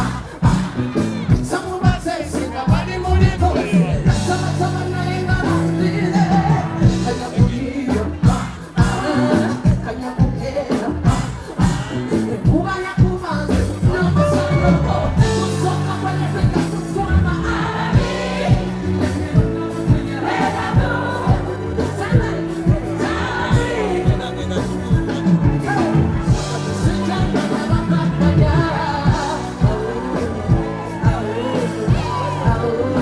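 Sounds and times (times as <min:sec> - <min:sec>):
bass: 0:00.0 - 0:33.0
drum beat: 0:00.0 - 0:33.0
person singing: 0:00.0 - 0:33.0.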